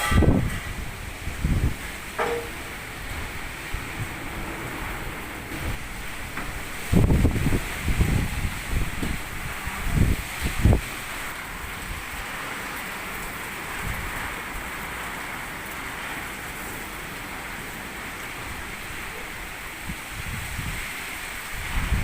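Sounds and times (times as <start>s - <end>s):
heavy rain falling: 0.0s - 22.0s
wind gusts buffeting microphone: 0.0s - 22.0s.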